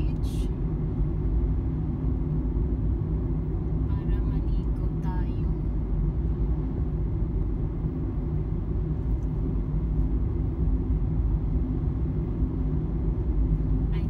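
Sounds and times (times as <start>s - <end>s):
car interior road rumble: 0.0s - 14.0s.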